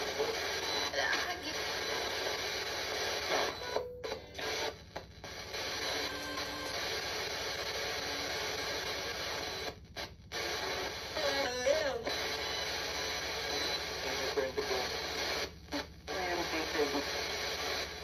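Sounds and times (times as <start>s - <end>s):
radio static hissing: 0.0s - 18.0s.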